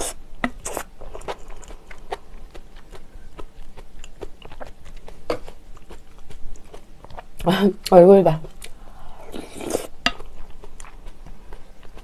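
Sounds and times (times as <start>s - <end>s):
chewing rice: 0.6s - 7.5s, 8.5s - 12.0s.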